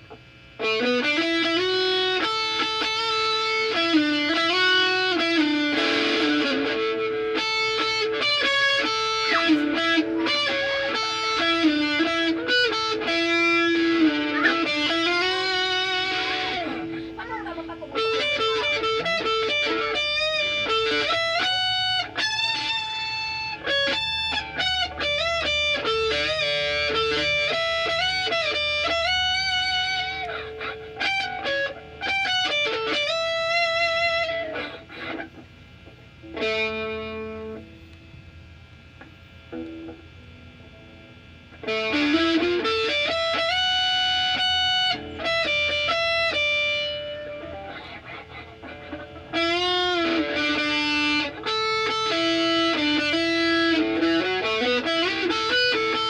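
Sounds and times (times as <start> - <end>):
distorted electric guitar lead: 0.0 - 56.0.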